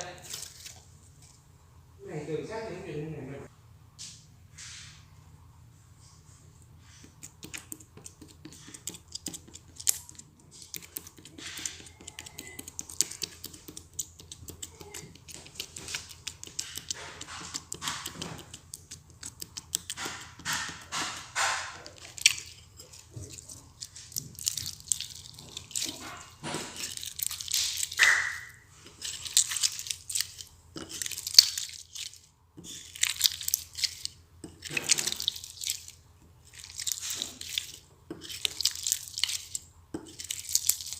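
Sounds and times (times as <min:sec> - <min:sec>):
slime squelching and popping: 0:07.0 - 0:40.9.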